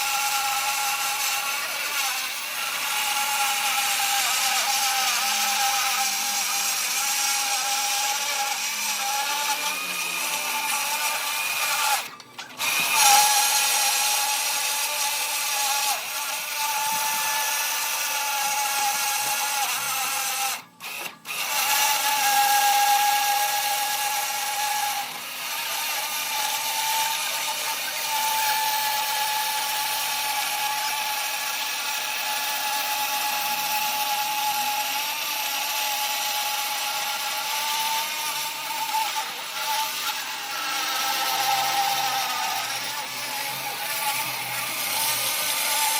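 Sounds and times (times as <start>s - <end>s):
power saw cutting wood: 0.0s - 45.9s.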